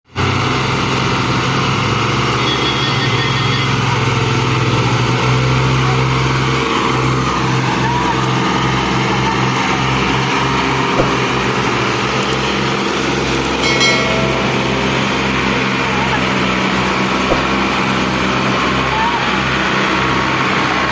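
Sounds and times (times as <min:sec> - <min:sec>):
tractor engine running under load: 0:00.1 - 0:20.9.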